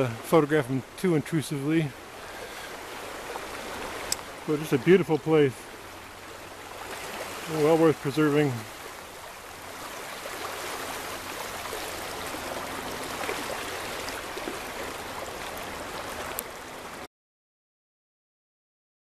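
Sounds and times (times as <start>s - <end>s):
river water rushing over riffles: 0.0s - 17.1s.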